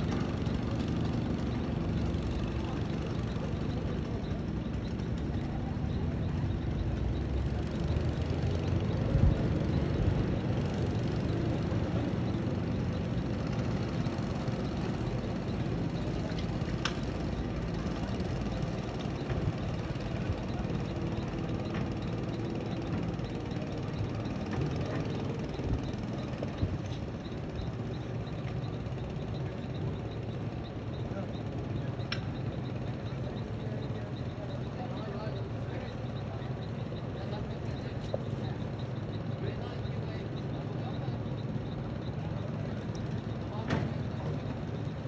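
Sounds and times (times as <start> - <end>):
engine running with low rumble: 0.0 - 45.0.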